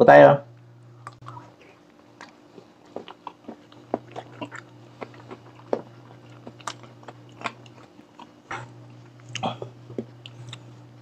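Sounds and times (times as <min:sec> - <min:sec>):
low hum: 0:00.3 - 0:11.0
mouth chewing wetly: 0:01.0 - 0:10.7.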